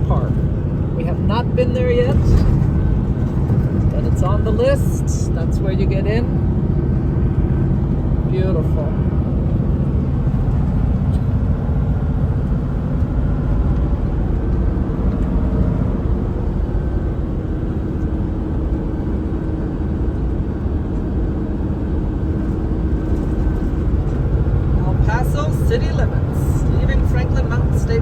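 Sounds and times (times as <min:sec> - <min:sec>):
truck engine and road rumble: 0:00.0 - 0:28.0.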